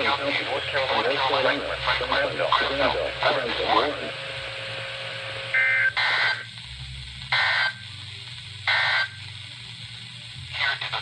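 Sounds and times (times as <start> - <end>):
radio hiss: 0.0 - 11.0
steady low hum: 0.0 - 11.0.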